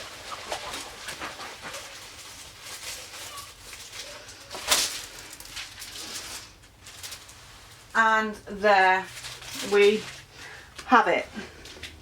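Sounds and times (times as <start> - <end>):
plastic canvas rustling and crinkling: 0.0 - 12.0.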